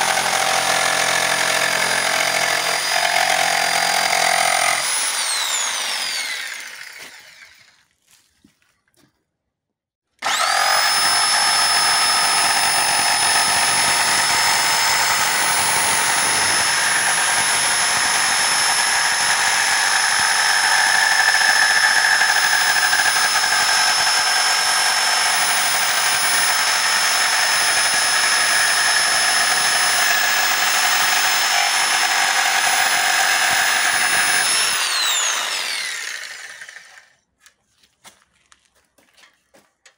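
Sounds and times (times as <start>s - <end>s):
electric jigsaw sawing wood: 0.0s - 7.9s, 10.2s - 37.2s.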